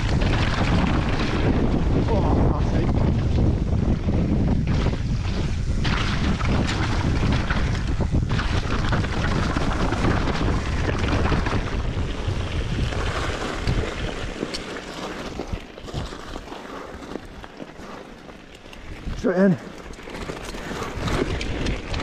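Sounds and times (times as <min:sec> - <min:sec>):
mountain bike rumbling on trail: 0:00.0 - 0:22.0
wind buffeting microphone: 0:00.0 - 0:22.0.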